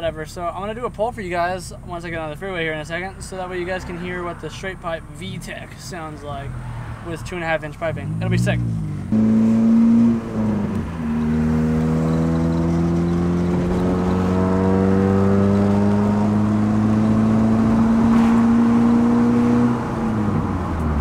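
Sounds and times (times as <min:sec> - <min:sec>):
car engine accelerating: 0:01.8 - 0:21.0.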